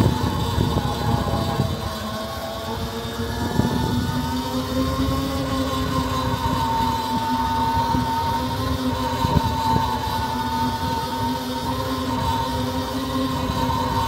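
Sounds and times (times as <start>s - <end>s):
electric bike motor whining: 0.0s - 14.0s
wind and tyre rumble: 0.0s - 14.0s.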